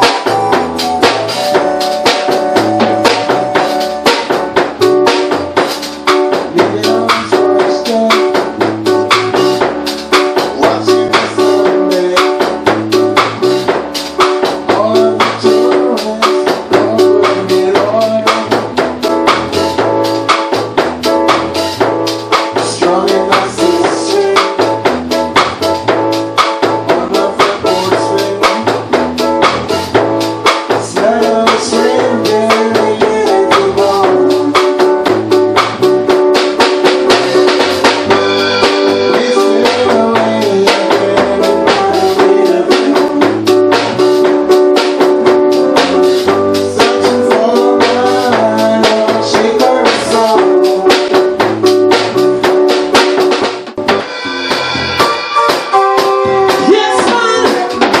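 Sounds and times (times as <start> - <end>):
bass guitar line: 0.0 - 58.0
drum strokes: 0.0 - 58.0
held keyboard chords: 0.0 - 58.0
live band playing: 0.0 - 58.0.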